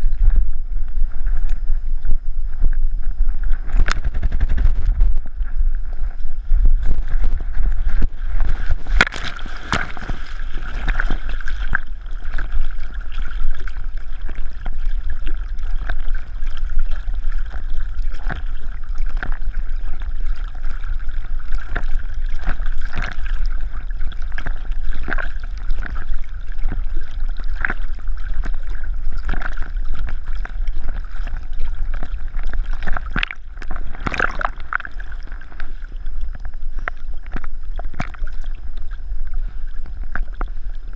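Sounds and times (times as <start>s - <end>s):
steady low rumble: 0.0s - 40.9s
water sloshing and splashing: 0.0s - 40.9s.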